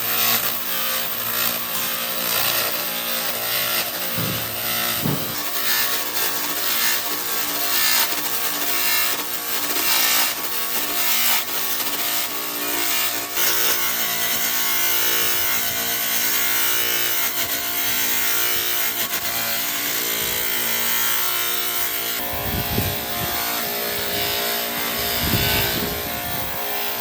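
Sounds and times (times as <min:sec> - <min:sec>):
power tool cutting wood: 0:00.0 - 0:27.0.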